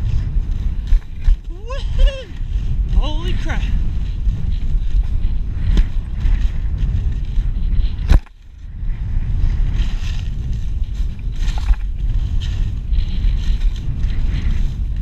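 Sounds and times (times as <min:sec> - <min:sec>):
low rumbling of travel over snow: 0:00.0 - 0:15.0.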